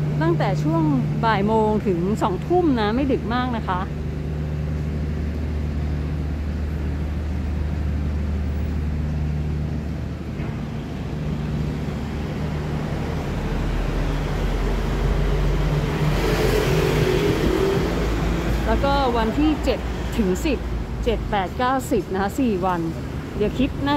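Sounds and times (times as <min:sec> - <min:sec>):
vehicle engine humming: 0:00.0 - 0:23.9.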